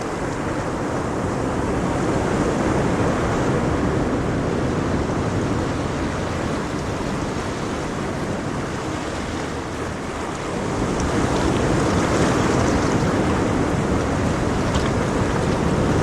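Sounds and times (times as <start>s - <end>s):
ocean waves washing onto shore: 0.0s - 16.0s.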